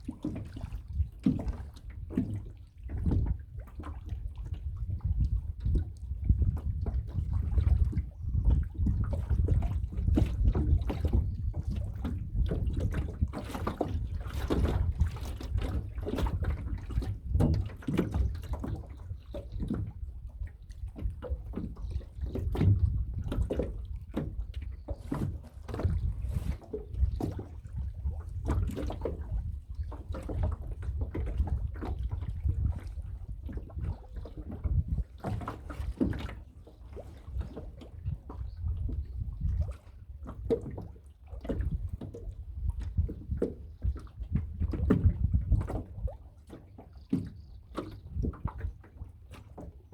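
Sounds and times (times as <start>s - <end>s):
water splashing around boat: 0.0s - 49.9s
wind rumble on microphone: 0.0s - 49.9s.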